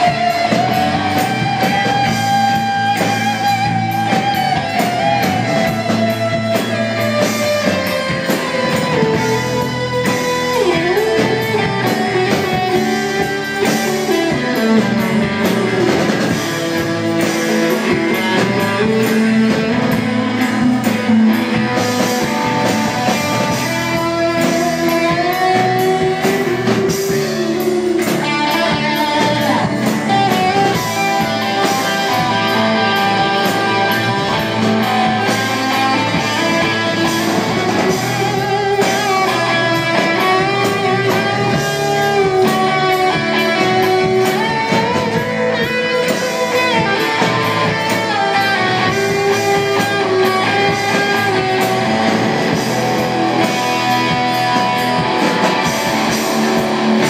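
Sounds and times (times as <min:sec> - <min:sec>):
bass guitar: 0:00.0 - 0:57.0
drums: 0:00.0 - 0:57.0
guitars strumming: 0:00.0 - 0:57.0.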